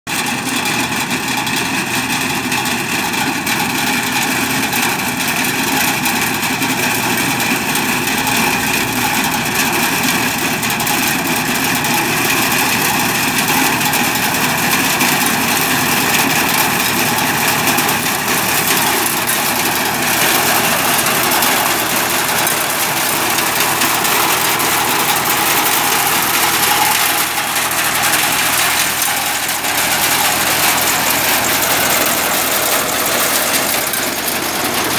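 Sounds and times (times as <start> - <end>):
crop reaper engine running: 0.1 - 34.9.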